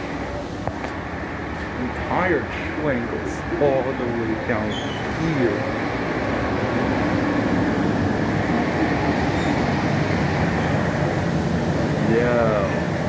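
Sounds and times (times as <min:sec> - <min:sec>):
streetcar wheels rumbling on rail: 0:00.0 - 0:13.0.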